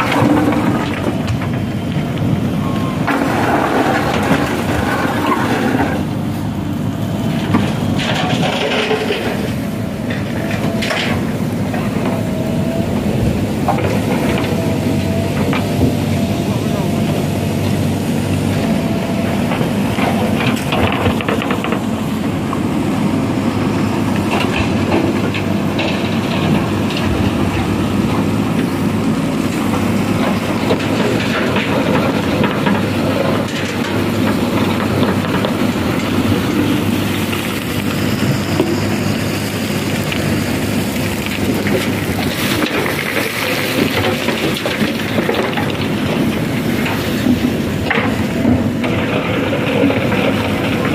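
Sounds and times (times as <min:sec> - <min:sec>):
diesel engine running under load: 0:00.0 - 0:50.9.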